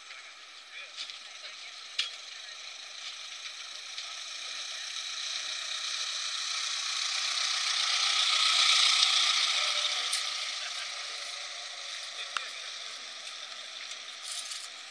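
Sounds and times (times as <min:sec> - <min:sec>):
old car engine and rattling: 0:00.0 - 0:14.9.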